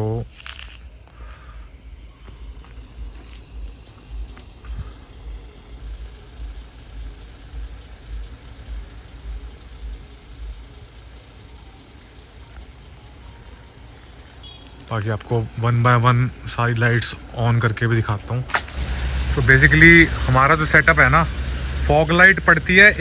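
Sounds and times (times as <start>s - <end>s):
crickets chirping: 0.0s - 23.0s
low uneven rumble: 1.3s - 23.0s.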